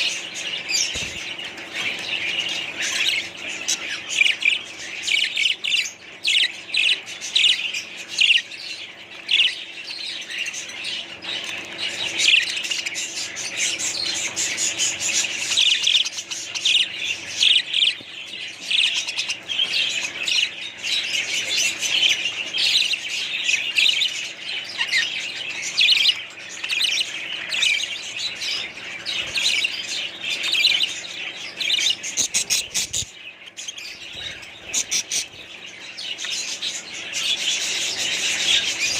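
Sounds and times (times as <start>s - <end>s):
budgerigars chirping and squawking: 0.0s - 38.9s.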